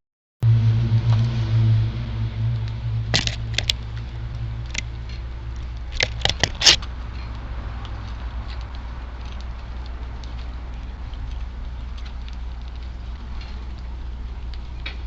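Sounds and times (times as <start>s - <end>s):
wind buffeting microphone: 0.4s - 15.0s
sharp high ticks: 2.5s - 15.0s.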